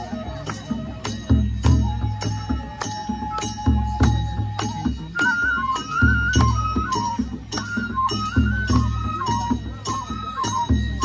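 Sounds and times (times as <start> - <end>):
drum beat: 0.0 - 11.0
flute playing: 0.0 - 11.0
jingling percussion: 0.0 - 11.0.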